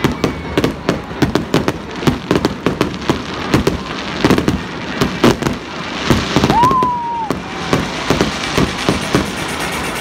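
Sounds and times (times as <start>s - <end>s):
fireworks bangs and pops: 0.0s - 10.0s.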